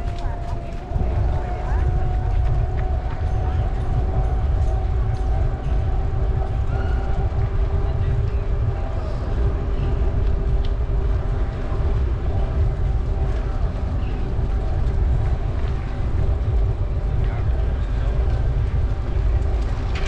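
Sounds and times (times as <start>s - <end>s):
faint voices: 0.0s - 20.0s
wind rumble on microphone: 0.0s - 20.0s.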